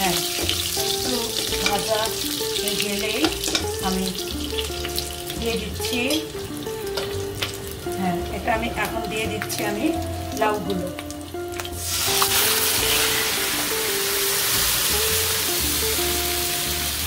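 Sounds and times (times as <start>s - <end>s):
background music: 0.0s - 17.0s
spices sizzling in hot oil: 0.0s - 17.0s.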